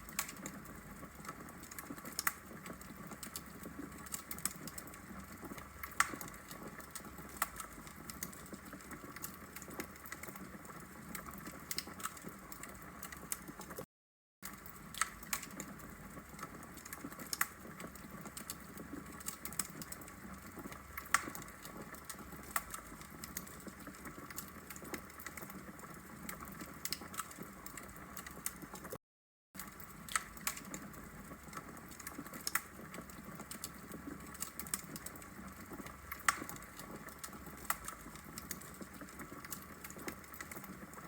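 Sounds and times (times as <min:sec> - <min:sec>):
logs crackling in fireplace: 0:00.0 - 0:13.8, 0:14.4 - 0:29.0, 0:29.6 - 0:41.0.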